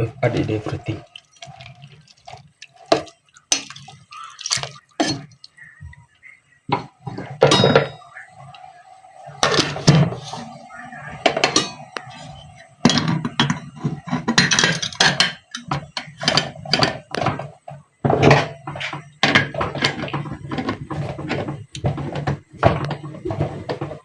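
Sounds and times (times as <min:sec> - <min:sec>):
pots and utensils clattering: 0:00.0 - 0:05.8, 0:06.7 - 0:24.0.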